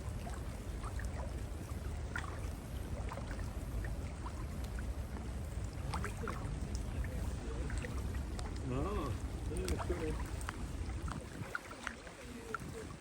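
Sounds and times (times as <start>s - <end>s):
water dripping: 0.0s - 13.0s
water splashing around wading legs: 0.0s - 13.0s.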